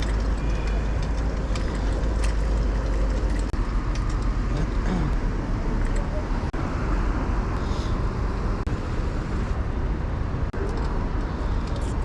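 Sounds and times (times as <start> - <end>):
city street traffic: 0.0 - 12.0
steady low rumble: 0.0 - 12.0.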